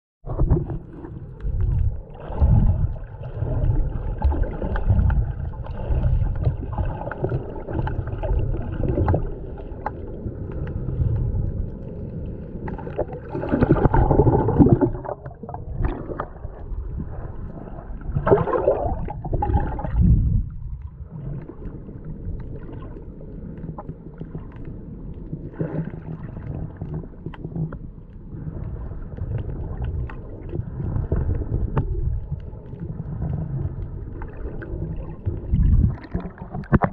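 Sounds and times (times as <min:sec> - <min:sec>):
muffled underwater sloshing: 0:00.2 - 0:36.9.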